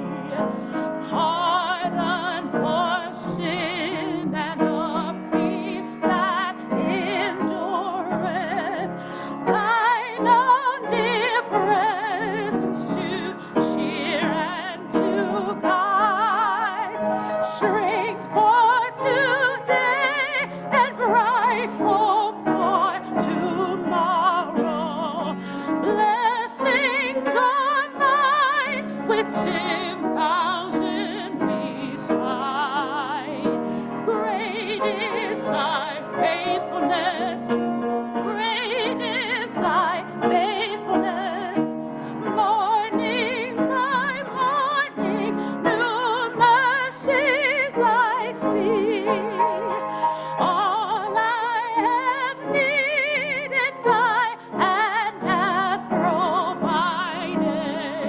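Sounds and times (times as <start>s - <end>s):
person singing a hymn with vibrato: 0.0s - 37.6s, 38.2s - 58.0s.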